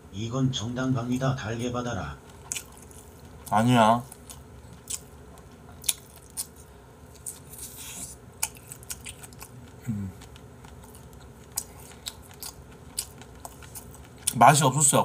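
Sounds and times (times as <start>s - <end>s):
wet chewing and lip-smacking: 2.2s - 14.4s.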